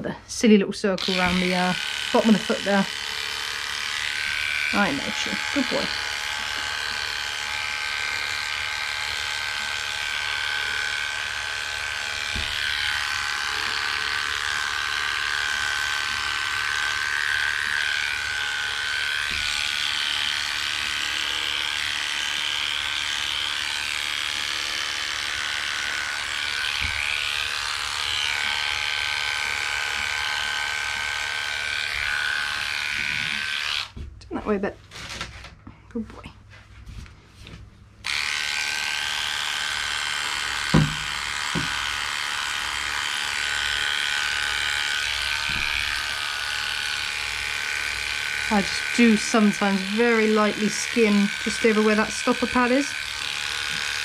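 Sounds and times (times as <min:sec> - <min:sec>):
electric clippers buzzing: 0:00.9 - 0:34.0, 0:38.0 - 0:54.0.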